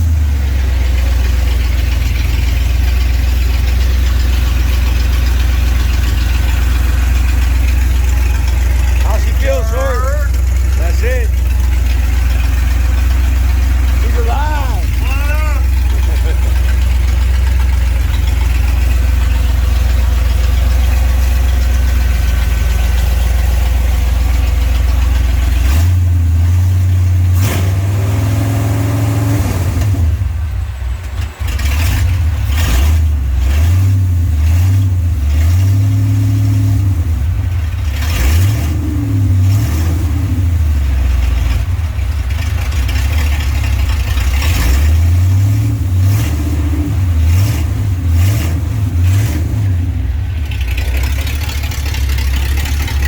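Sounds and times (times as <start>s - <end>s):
engine idling and revving: 0.0s - 53.0s.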